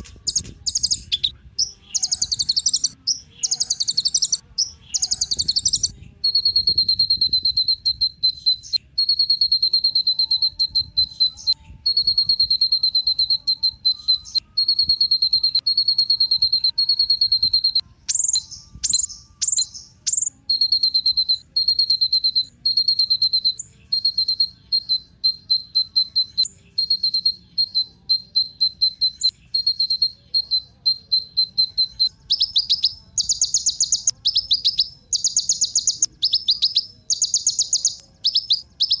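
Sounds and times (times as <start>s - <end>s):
sunbird buzzing trills: 0.0s - 39.0s.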